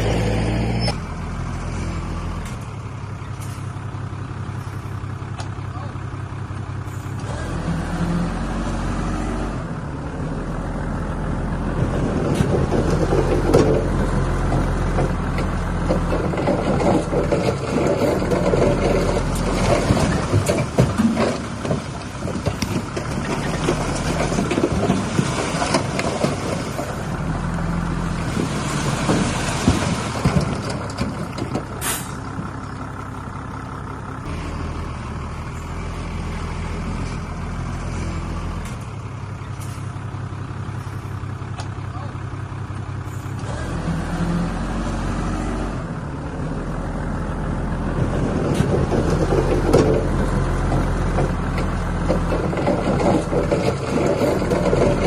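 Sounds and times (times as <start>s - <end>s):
machinery clatter and scraping: 0.0s - 5.6s, 6.6s - 55.0s
diesel engine drone: 0.0s - 55.0s.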